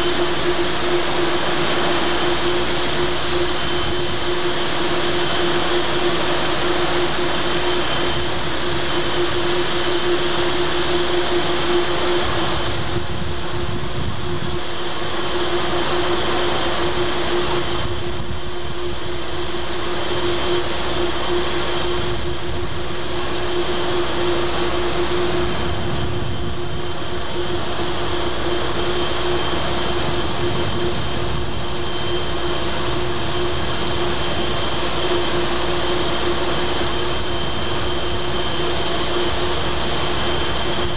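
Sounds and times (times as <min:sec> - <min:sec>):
steady machinery hum: 0:00.0 - 0:40.9
rush of wind and water: 0:07.7 - 0:40.9.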